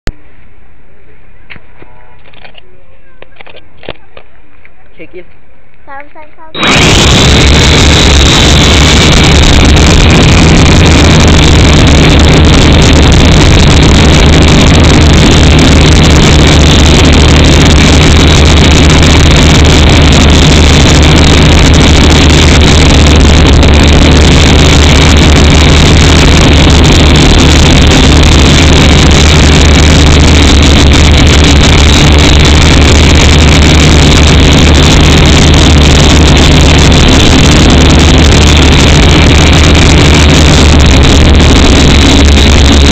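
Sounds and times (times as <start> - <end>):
drone motors whining: 6.6 - 42.9.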